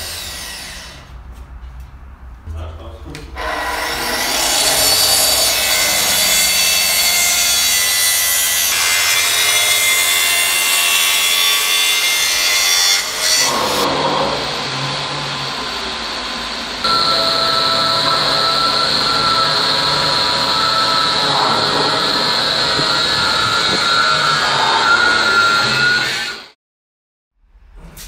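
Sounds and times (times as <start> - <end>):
circular saw cutting wood: 0.0 - 1.1, 3.4 - 26.6
quiet workshop noise: 0.0 - 26.5, 27.4 - 28.0.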